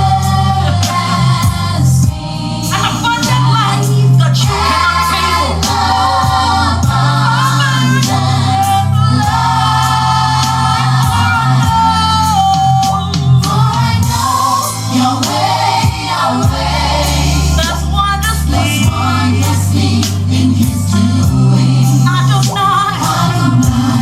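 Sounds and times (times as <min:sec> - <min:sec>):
deep bass notes: 0:00.0 - 0:24.0
gospel choir and lead vocals: 0:00.0 - 0:24.0.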